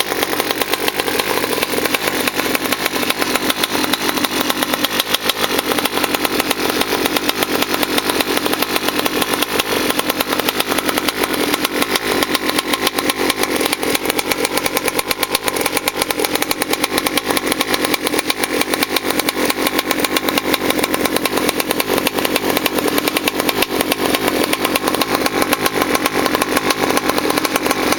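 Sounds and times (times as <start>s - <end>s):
two-stroke engine running: 0.0s - 27.9s.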